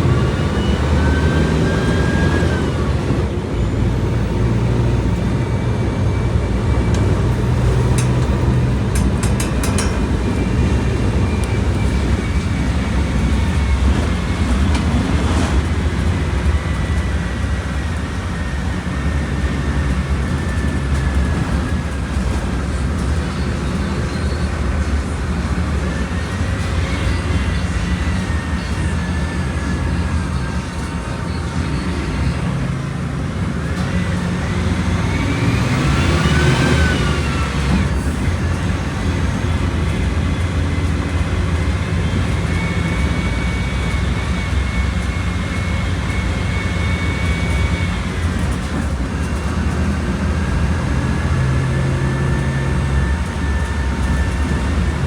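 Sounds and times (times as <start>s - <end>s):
bus diesel engine whining: 0.0s - 55.0s.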